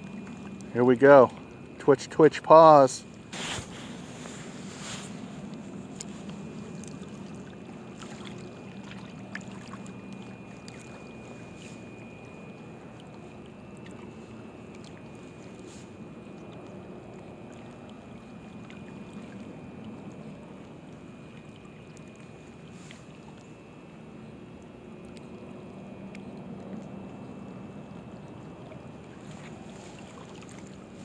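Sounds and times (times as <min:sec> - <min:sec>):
waves lapping at bank: 0:00.0 - 0:31.0
wind: 0:00.0 - 0:31.0.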